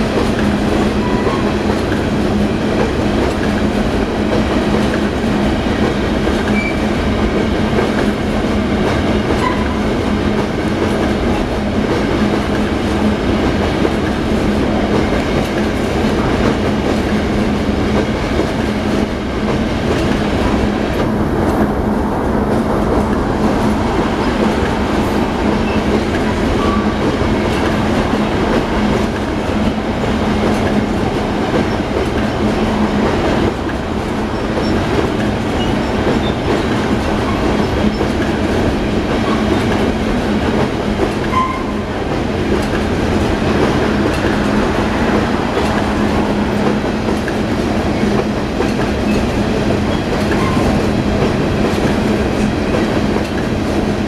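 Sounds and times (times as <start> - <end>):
freight train rumbling over bridge: 0.0 - 54.0.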